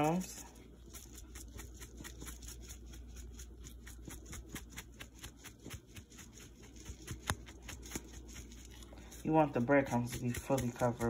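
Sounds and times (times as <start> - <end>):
breadcrumbs rustling in glass dish: 0.0 - 11.0.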